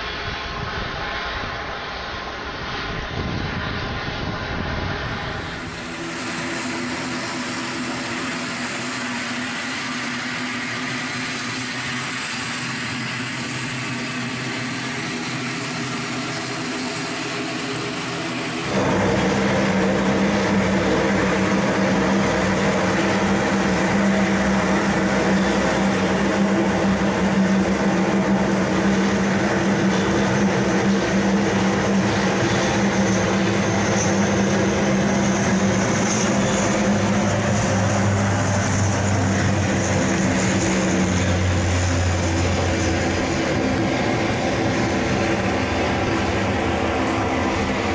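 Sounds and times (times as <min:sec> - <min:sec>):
turboprop engines droning: 0:00.0 - 0:47.9.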